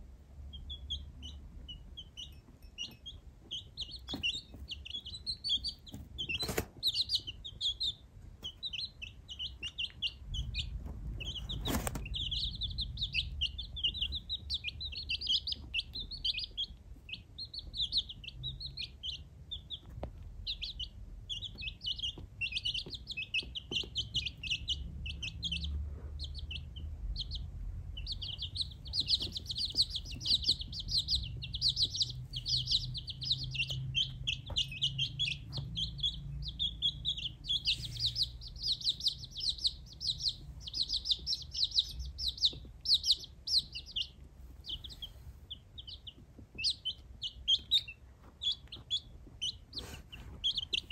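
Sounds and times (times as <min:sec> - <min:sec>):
chicks peeping: 0:00.0 - 0:50.9.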